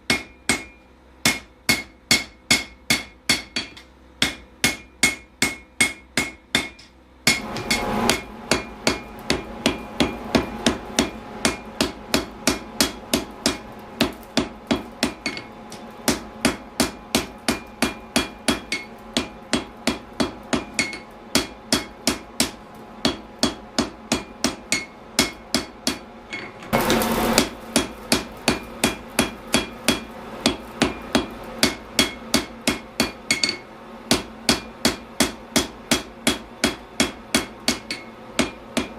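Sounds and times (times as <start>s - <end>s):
hammer ringing on anvil: 0.1s - 26.5s, 27.8s - 38.9s.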